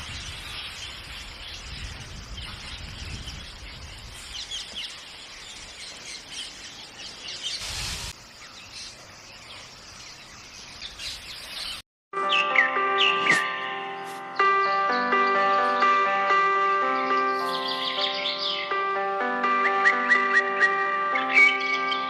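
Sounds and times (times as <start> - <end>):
birds chirping: 0.0 - 13.4, 14.3 - 22.0.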